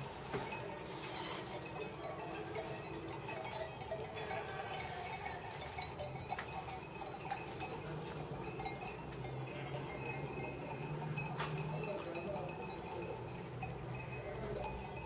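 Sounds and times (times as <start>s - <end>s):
goat bells clinking: 0.0s - 15.0s.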